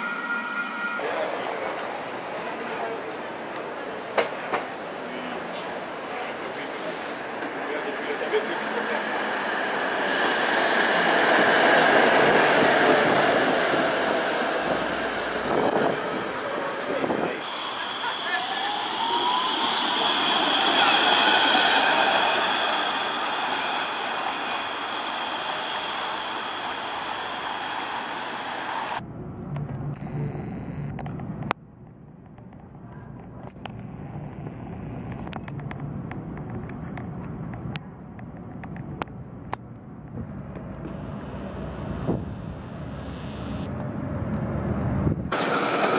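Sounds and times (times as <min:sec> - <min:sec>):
streetcar rolling on rails: 0:00.0 - 0:30.1, 0:30.9 - 0:45.9.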